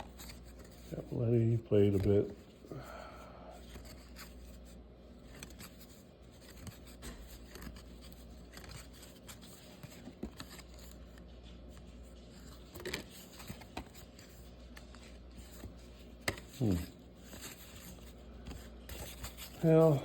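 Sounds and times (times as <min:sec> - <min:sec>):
cards being leafed through: 0:00.0 - 0:02.7, 0:03.5 - 0:20.0
steady low hum: 0:00.0 - 0:20.0.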